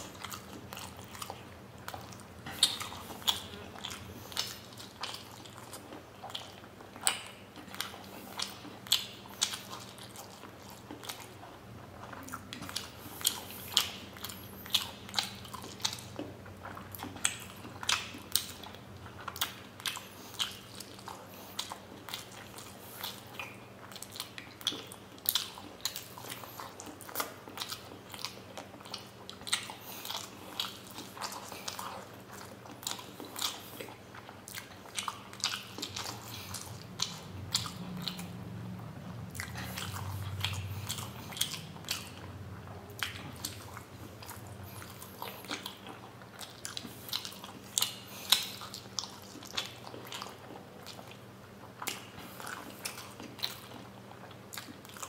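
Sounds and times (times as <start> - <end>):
person chewing with mouth clicks: 0.0 - 55.0.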